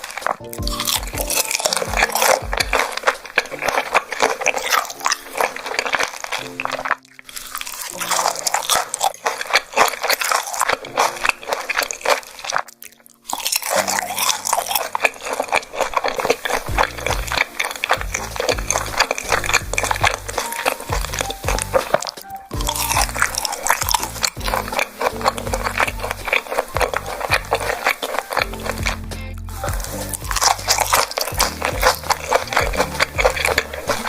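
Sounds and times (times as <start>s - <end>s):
background music: 0.0s - 34.0s
close biting and chewing: 0.0s - 34.0s.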